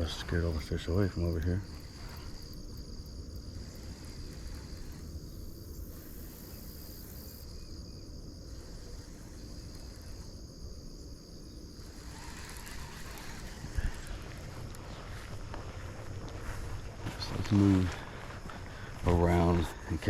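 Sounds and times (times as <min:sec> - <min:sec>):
insects trilling: 0:00.0 - 0:20.0
wind noise rumble: 0:00.0 - 0:20.0.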